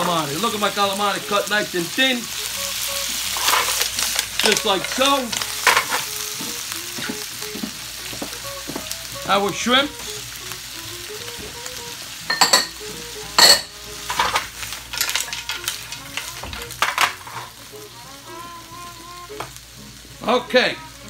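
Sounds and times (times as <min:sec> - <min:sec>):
seafood sizzling in a frying pan: 0:00.0 - 0:21.0.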